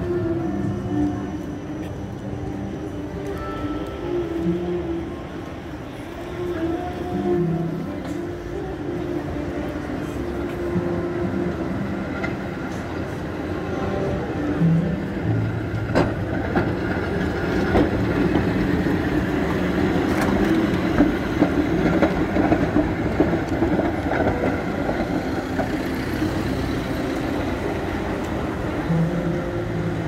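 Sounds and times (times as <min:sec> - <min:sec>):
tram wheels rumbling on rails: 0:00.0 - 0:30.0
wheels clicking over rail joints: 0:00.0 - 0:30.0.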